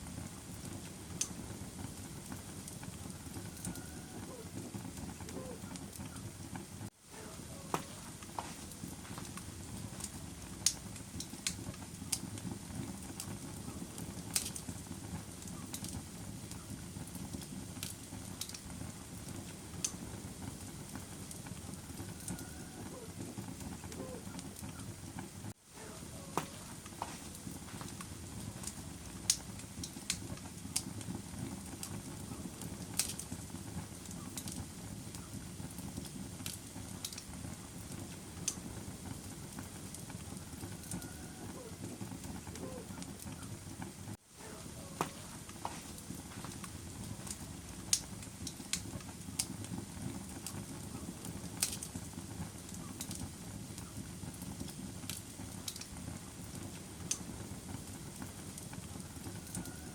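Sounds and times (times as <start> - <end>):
fire crackling and popping: 0.0 - 59.9
fire low rumble: 0.0 - 59.9.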